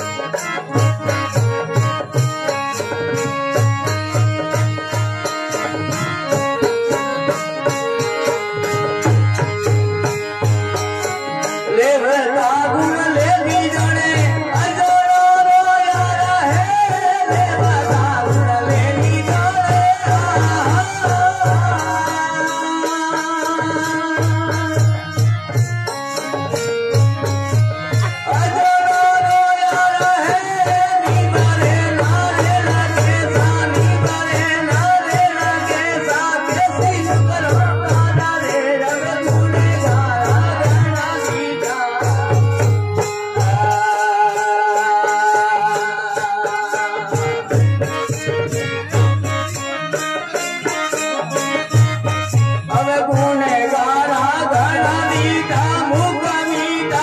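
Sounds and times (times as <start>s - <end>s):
person singing: 0.0s - 25.6s, 26.2s - 57.0s
harmonium melody: 0.0s - 57.0s
steady percussion beat: 0.0s - 57.0s.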